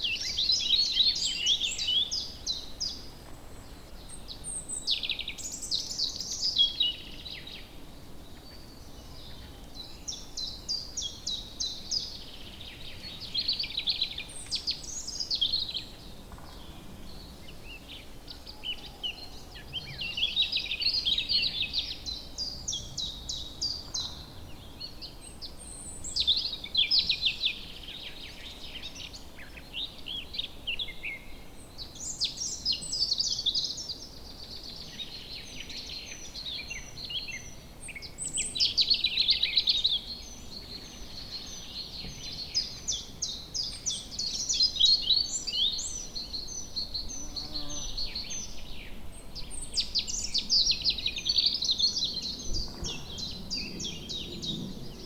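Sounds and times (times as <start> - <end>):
faint background hiss: 0.0 - 55.0
songbirds singing and chirping: 0.0 - 55.0.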